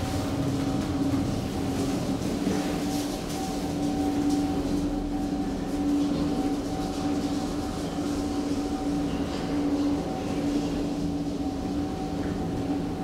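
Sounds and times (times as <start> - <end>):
elevator car humming and rumbling: 0.0 - 13.0.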